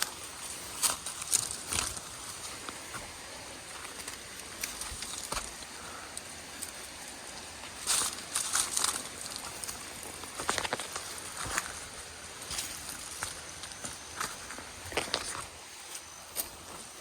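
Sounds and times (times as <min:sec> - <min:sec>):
faint hiss: 0:00.0 - 0:17.0
footsteps on leaves and twigs: 0:00.0 - 0:17.0.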